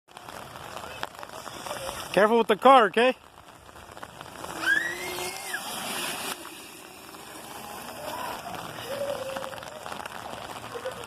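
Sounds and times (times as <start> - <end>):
watery hiss from wet ground: 0.1 - 11.0.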